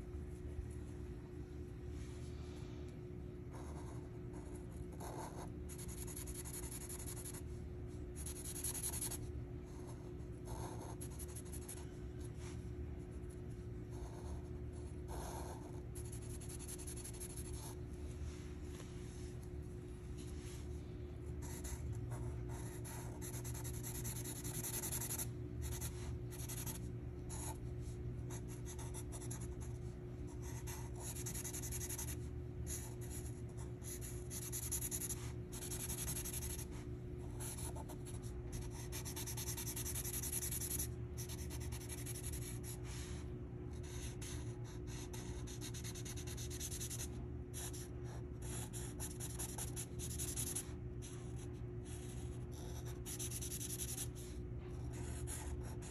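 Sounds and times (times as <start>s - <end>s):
marker scratching on paper: 3.6s - 7.4s, 8.2s - 12.4s, 13.1s - 17.8s, 21.4s - 43.2s, 43.8s - 55.9s.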